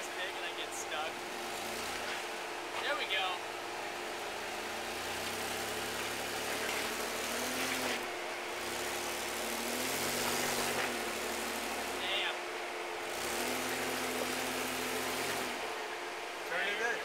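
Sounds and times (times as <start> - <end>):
car engine revving at low revs: 0.0 - 17.0.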